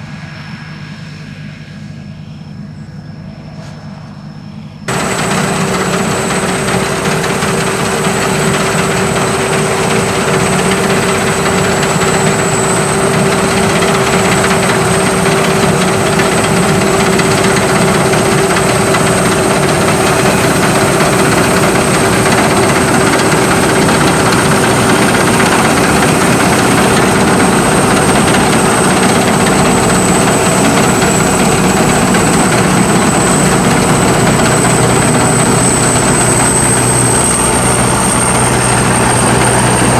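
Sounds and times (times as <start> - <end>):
thin high machinery whine: 0.0 - 39.9
combine harvester engine running: 4.9 - 39.9.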